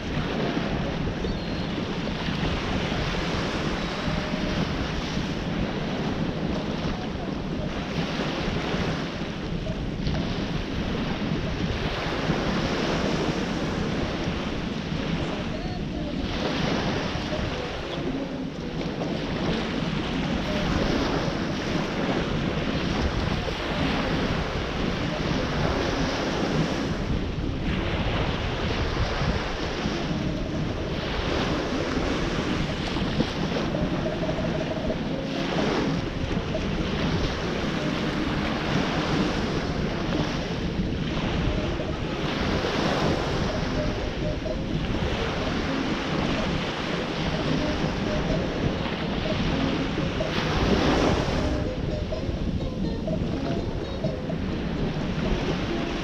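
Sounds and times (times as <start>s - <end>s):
ocean surf breaking on shore: 0.0s - 56.0s
wind rumbling on microphone: 0.0s - 56.0s.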